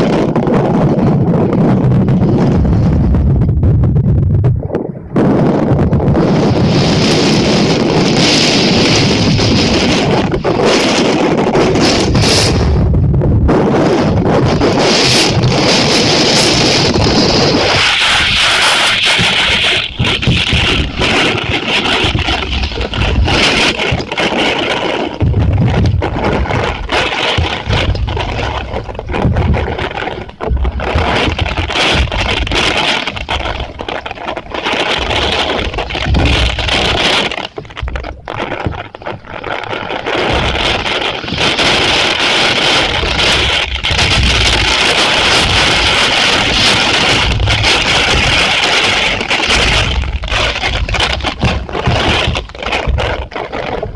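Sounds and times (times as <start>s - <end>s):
heavy rain and wind: 0.0s - 53.9s
wind buffeting microphone: 0.0s - 53.9s.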